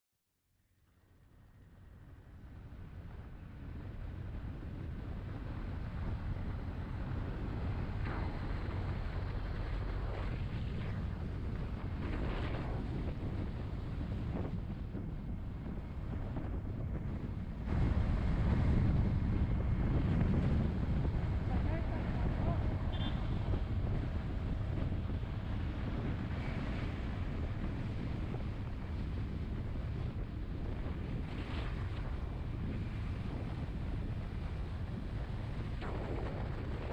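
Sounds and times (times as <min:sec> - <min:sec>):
wind buffeting microphone: 0:01.9 - 0:36.9
vehicle noise: 0:02.6 - 0:36.9.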